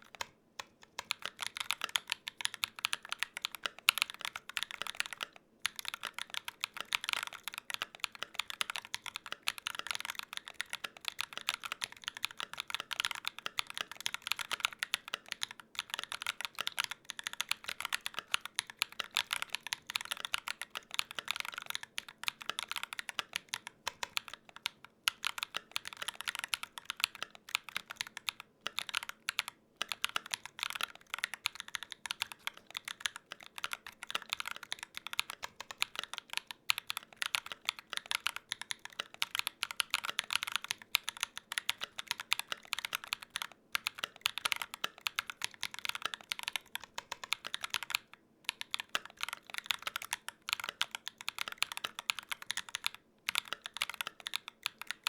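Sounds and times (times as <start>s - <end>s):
fast mechanical keyboard typing: 0.0s - 55.0s.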